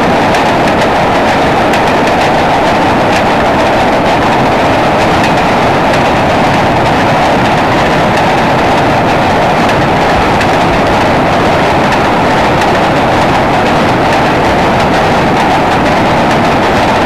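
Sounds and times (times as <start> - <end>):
freight train rumbling over bridge: 0.0 - 17.0
wheels clicking over rail joints: 0.0 - 17.0.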